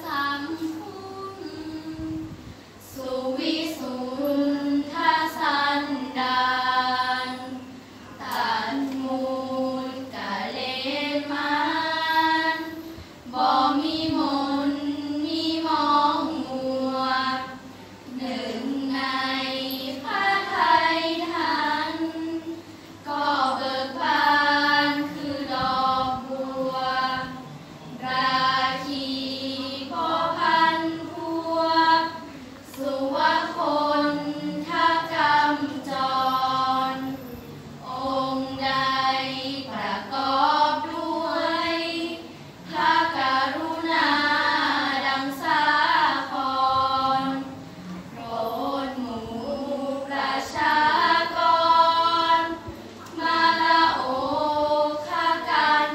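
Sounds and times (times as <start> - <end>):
girls chanting in unison: 0.0 - 55.9.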